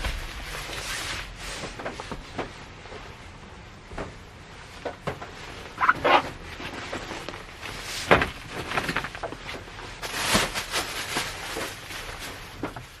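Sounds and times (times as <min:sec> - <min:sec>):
rain on car roof: 0:00.0 - 0:13.0.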